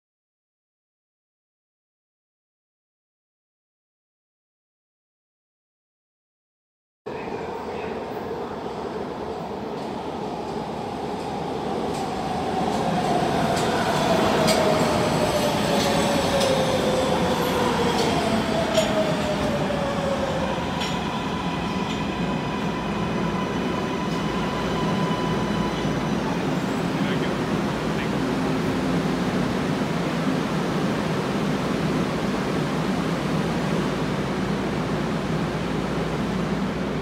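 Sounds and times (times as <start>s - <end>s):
train whine slowing: 7.2s - 37.0s.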